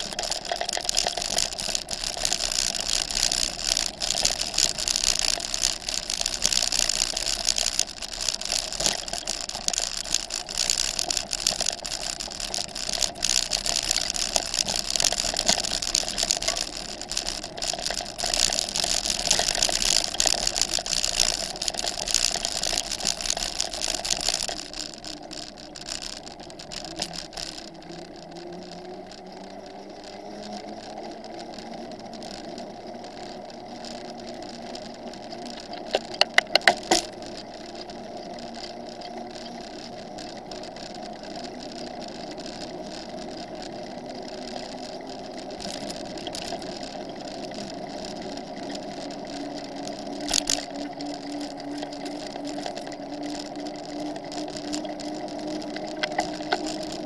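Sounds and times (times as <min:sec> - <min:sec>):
bicycle tyres crunching on gravel: 0:00.0 - 0:57.0
sharp clicks: 0:00.0 - 0:57.0
tyres rolling on asphalt: 0:00.0 - 0:57.0.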